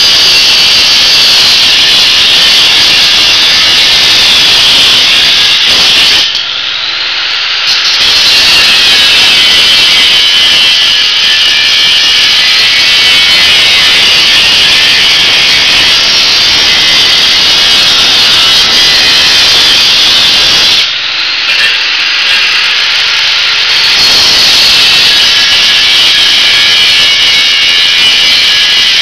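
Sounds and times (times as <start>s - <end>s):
angle grinder cutting metal: 0.0s - 29.0s.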